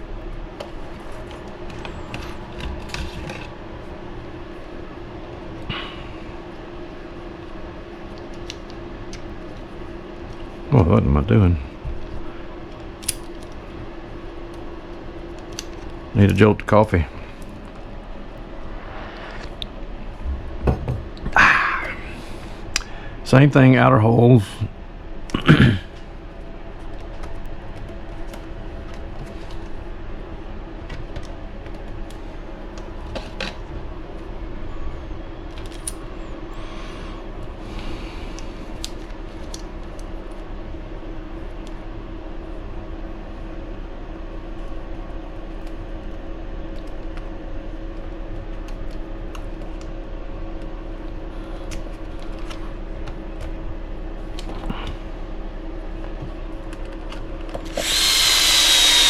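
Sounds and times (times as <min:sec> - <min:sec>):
steady background hum: 0:00.0 - 0:59.0.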